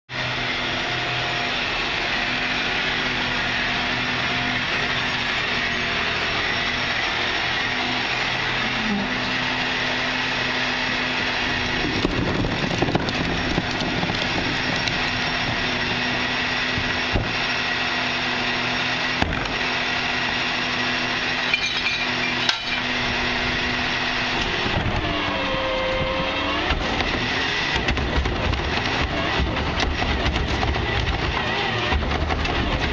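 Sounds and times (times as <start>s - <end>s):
diesel engine running: 0.1s - 32.9s
hydraulic whine: 0.1s - 32.9s.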